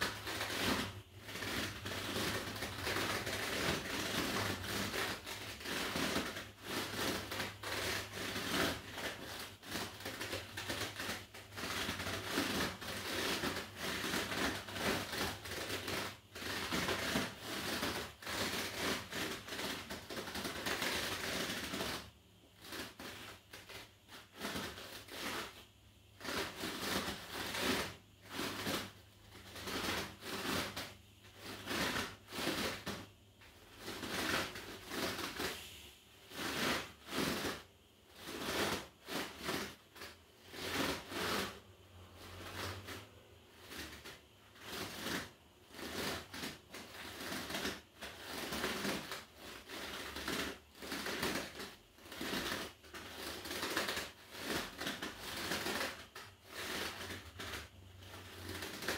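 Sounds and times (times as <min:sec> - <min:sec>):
rubber disc creaking under feet: 0:00.0 - 0:58.9.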